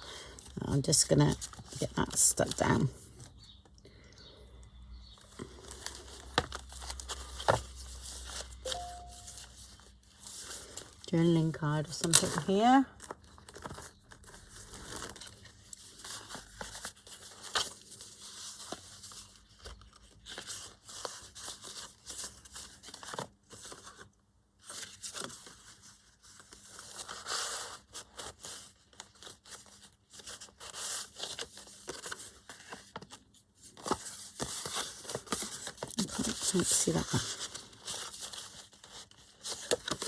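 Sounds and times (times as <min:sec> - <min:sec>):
paper rustling and crinkling: 0:05.1 - 0:40.0.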